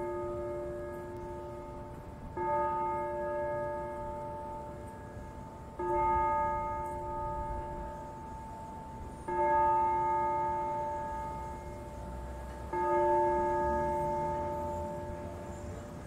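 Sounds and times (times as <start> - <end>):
low church bell tolling: 0.0 - 16.0.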